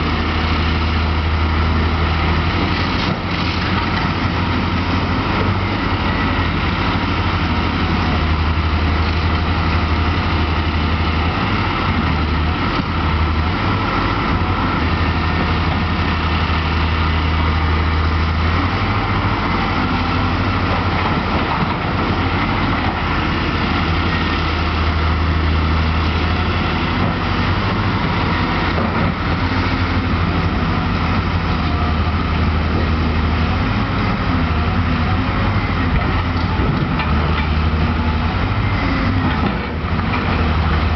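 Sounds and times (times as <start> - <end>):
heavy diesel machinery rumbling: 0.0 - 40.9.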